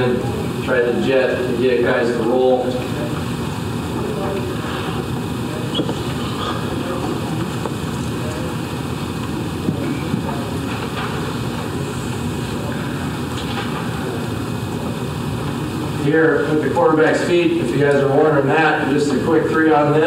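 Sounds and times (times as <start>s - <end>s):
faint indistinct murmurs: 0.0s - 20.0s
room noise hiss and rumble: 0.0s - 20.0s.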